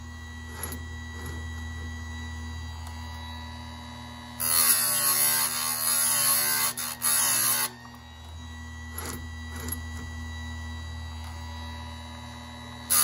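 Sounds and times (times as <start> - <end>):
sharpener motor humming: 0.0 - 3.6, 4.3 - 12.1.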